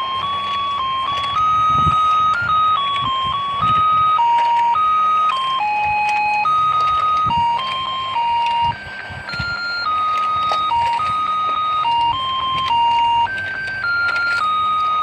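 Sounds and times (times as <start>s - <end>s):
toy beeping electronic melody: 0.0s - 15.0s.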